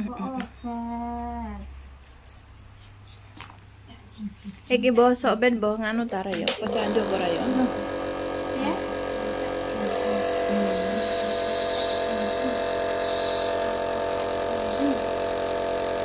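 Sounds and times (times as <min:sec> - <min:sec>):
compressor electric hum: 0:00.0 - 0:16.0.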